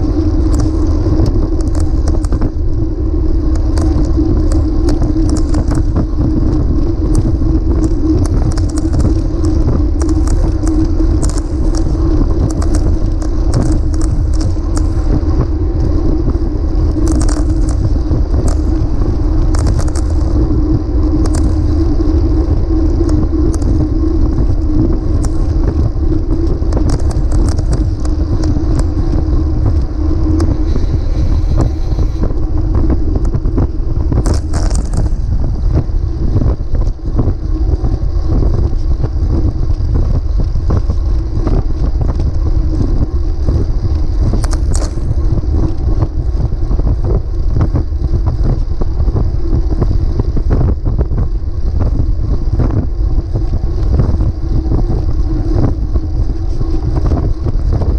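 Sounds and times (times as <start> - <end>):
bike rattling over bumps: 0.0 - 57.9
tyre and road noise: 0.0 - 57.9
wind buffeting microphone: 0.0 - 57.9.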